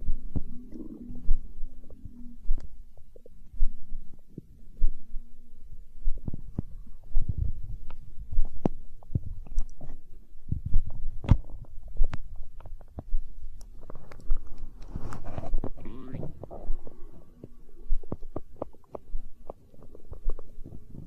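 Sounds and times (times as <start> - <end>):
stomach growling and gurgling: 0.0 - 21.0.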